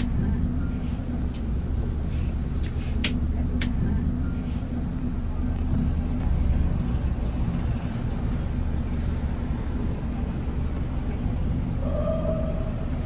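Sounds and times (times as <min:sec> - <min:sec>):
diesel bus engine rumbling: 0:00.0 - 0:13.0.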